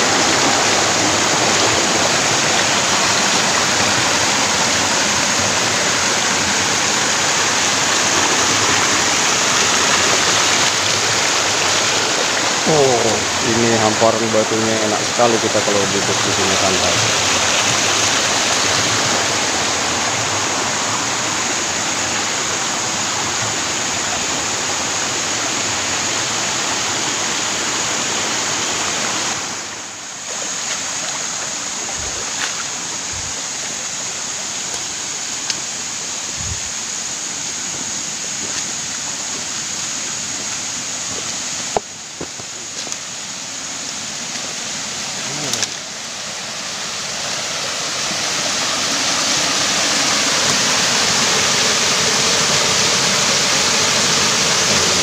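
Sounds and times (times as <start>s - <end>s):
stream and waterfall rushing: 0.0s - 55.0s.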